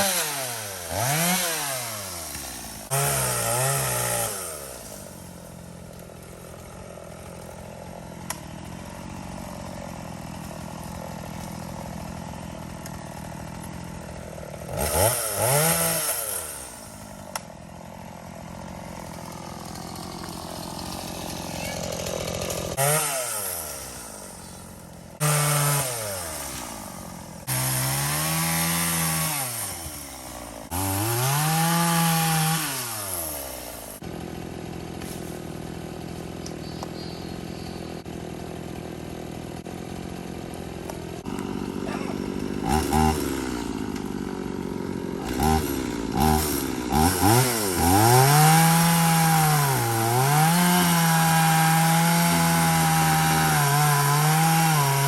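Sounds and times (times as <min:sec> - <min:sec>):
chainsaw revving cutting wood: 0:00.0 - 0:55.0.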